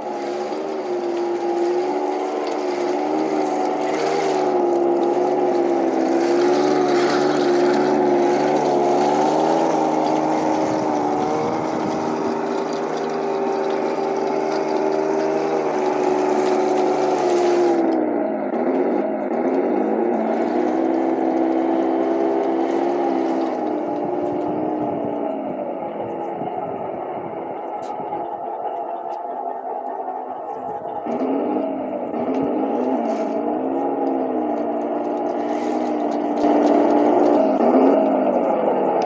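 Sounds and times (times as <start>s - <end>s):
simulated tank engine drone: 0.0s - 39.0s.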